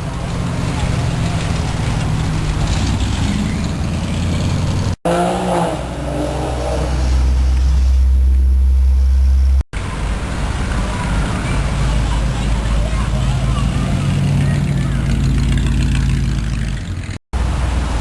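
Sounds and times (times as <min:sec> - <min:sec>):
car engines cruising past: 0:00.0 - 0:18.0.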